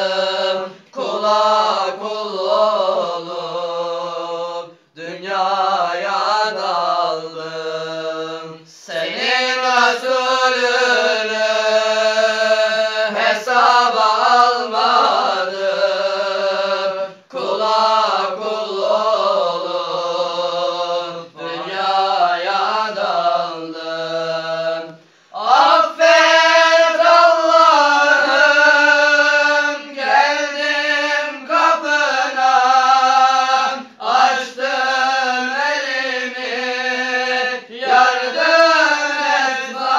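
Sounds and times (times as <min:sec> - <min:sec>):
men singing religious chant: 0:00.0 - 0:39.9.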